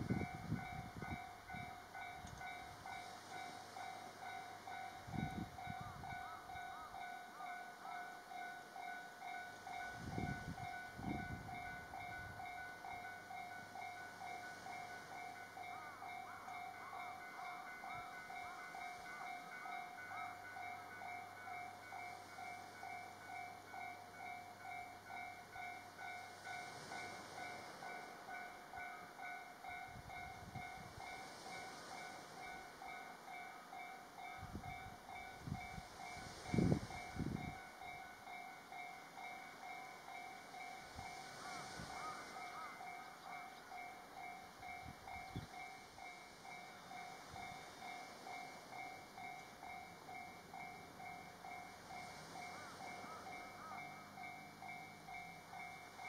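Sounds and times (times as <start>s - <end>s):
level-crossing warning bell ringing: 0.0s - 56.0s.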